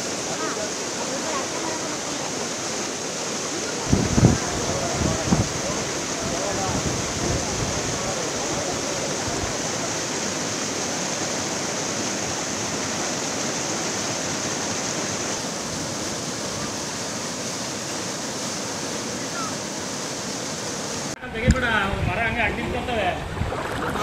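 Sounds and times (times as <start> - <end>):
floodwater rushing and churning: 0.0 - 24.0.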